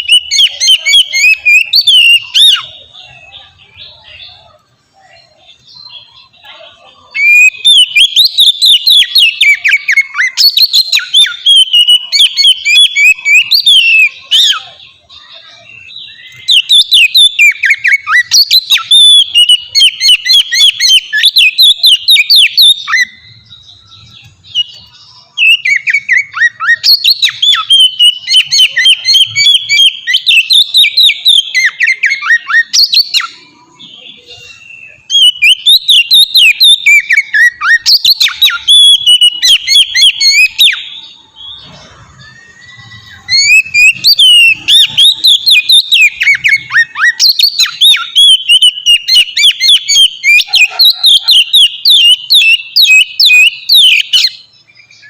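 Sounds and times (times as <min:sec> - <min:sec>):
magpie-robin singing: 0:00.0 - 0:55.0.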